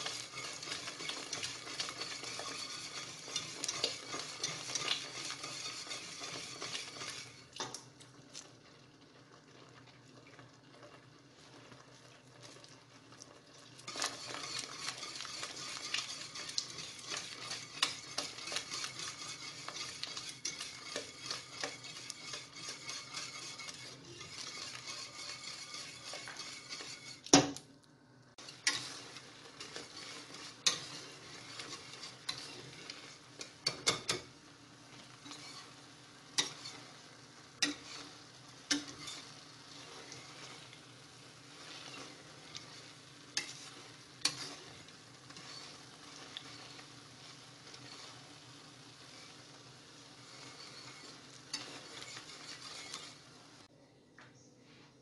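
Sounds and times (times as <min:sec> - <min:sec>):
whisk scraping and clinking on pan: 0:00.0 - 0:07.8, 0:13.8 - 0:27.4, 0:28.4 - 0:53.7
faint sizzle: 0:00.0 - 0:55.0.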